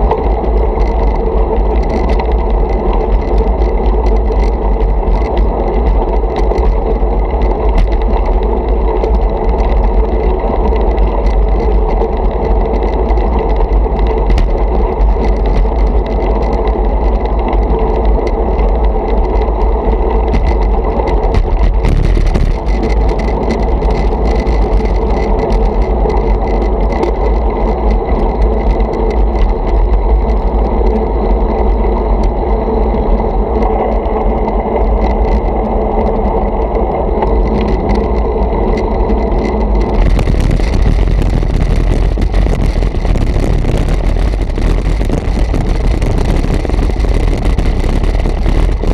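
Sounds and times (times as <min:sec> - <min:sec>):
road vibration rumble: 0:00.0 - 0:48.9
small clicks and rattles: 0:00.0 - 0:48.9
wind buffeting: 0:00.0 - 0:48.9.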